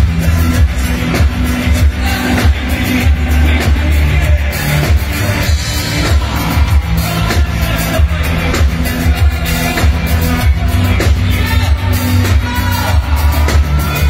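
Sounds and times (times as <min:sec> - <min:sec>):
live synth-pop band playing: 0:00.0 - 0:14.0.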